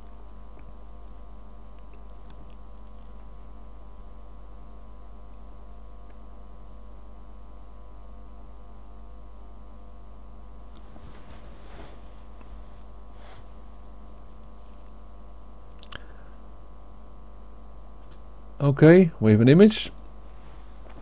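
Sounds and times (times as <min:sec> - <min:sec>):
electrical hum: 0:00.0 - 0:21.0
faint high-pitched whine: 0:00.0 - 0:21.0.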